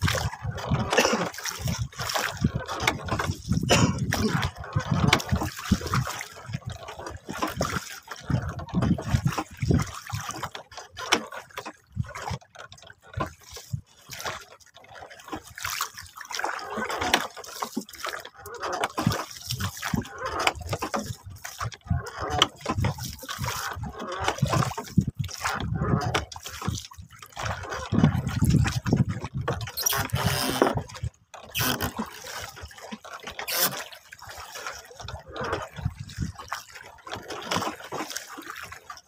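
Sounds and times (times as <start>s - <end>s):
water splashing against boat hull: 0.0s - 39.0s.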